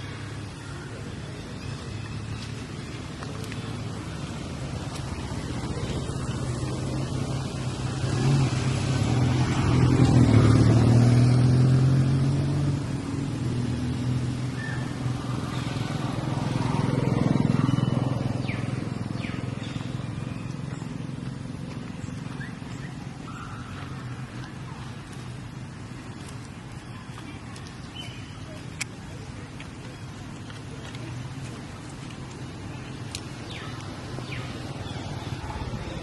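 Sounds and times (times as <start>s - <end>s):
vehicle engine passing: 1.4s - 36.0s.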